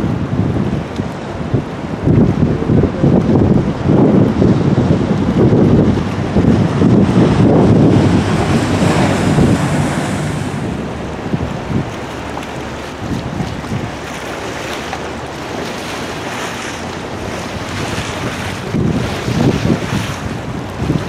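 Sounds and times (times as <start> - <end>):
river water rushing: 0.0 - 21.0
wind buffeting microphone: 0.0 - 21.0.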